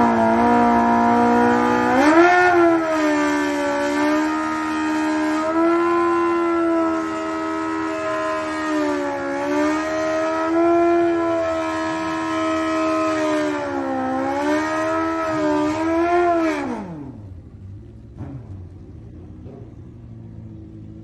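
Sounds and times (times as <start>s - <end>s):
motorcycle engine revving high: 0.0s - 17.8s.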